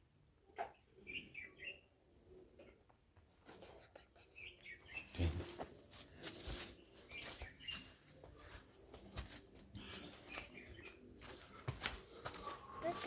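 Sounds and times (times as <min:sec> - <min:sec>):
small birds chirping: 0:00.5 - 0:02.0, 0:03.6 - 0:13.0.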